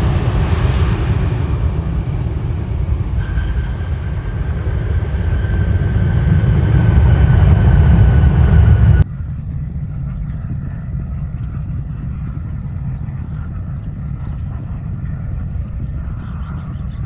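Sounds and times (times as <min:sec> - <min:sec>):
jet engines rumbling with whine: 0:00.0 - 0:17.0.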